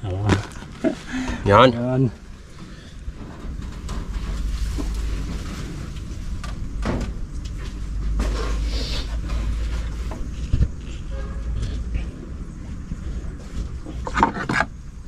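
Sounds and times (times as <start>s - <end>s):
low rumble: 0.0s - 14.1s.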